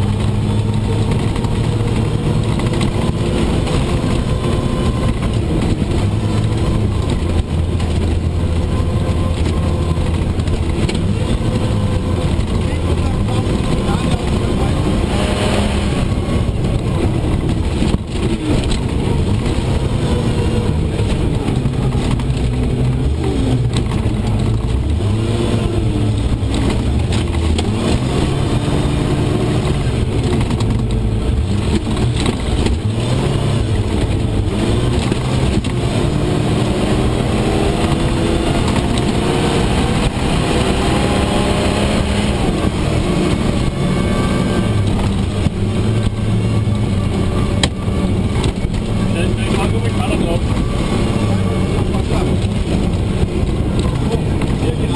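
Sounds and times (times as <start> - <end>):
truck engine running hard: 0.0 - 54.9.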